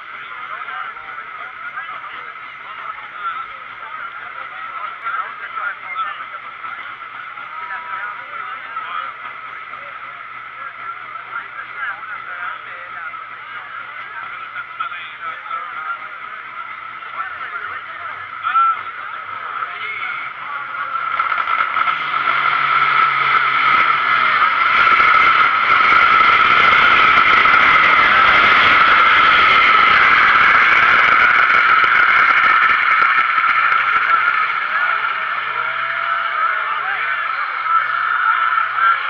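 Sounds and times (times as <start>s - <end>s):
crowd voices: 0.0s - 39.0s
diesel truck engines at full throttle: 0.0s - 39.0s.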